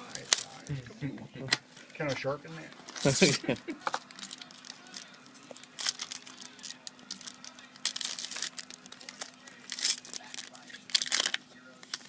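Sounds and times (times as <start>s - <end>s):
packaging crinkling and tearing: 0.0s - 0.7s, 2.7s - 12.0s.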